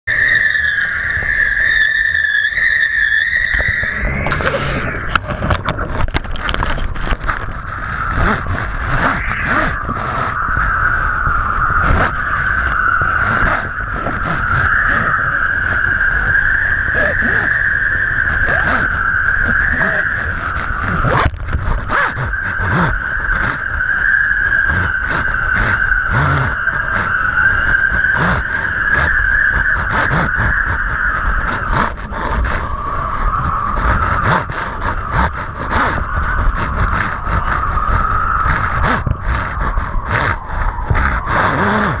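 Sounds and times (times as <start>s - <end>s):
steady high whistle: 0.0s - 5.2s, 7.5s - 42.0s
rough low rumbling and crackling: 0.0s - 42.0s
wind buffeting a camera: 3.4s - 42.0s.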